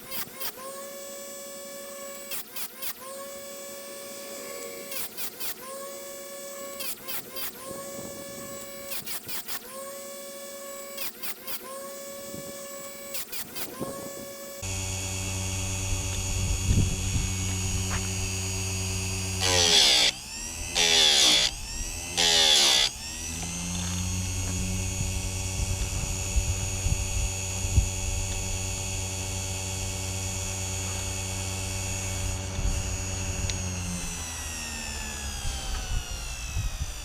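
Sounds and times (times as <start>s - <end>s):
grinding wheel motor running: 0.0s - 37.0s.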